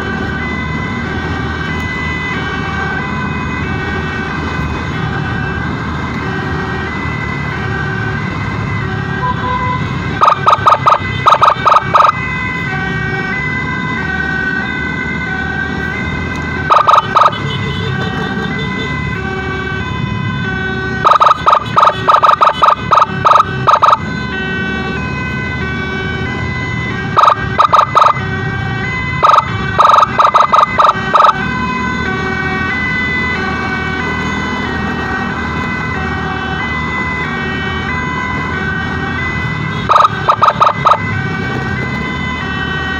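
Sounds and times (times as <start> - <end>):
emergency siren: 0.0 - 42.9
road and engine rumble: 0.0 - 42.9.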